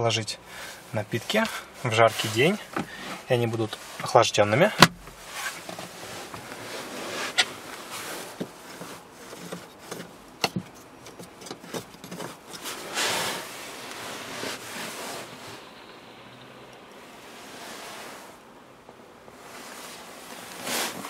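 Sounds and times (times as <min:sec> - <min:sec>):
rustling handling noise: 0:00.6 - 0:15.9, 0:19.3 - 0:21.0.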